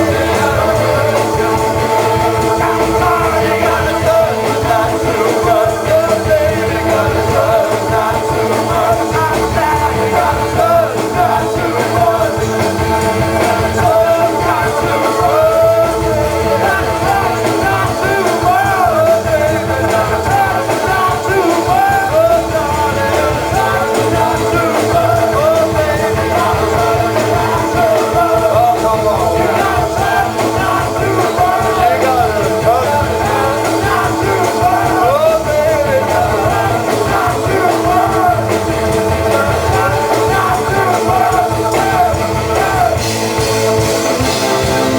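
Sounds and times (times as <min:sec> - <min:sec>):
loud rock music with singing: 0:00.0 - 0:44.9.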